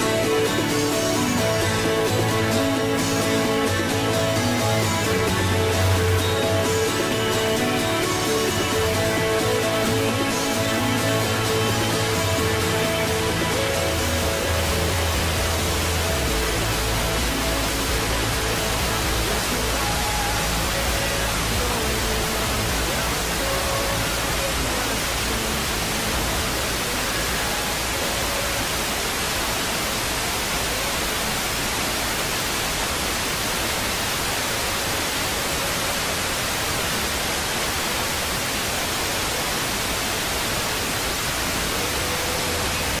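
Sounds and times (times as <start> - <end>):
faint radio music: 0.0 - 43.0
radio hiss: 0.0 - 43.0.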